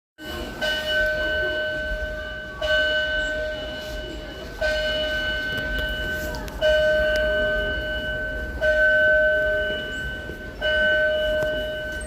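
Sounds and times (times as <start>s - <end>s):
fire alarm multi-tone note: 0.2s - 12.0s.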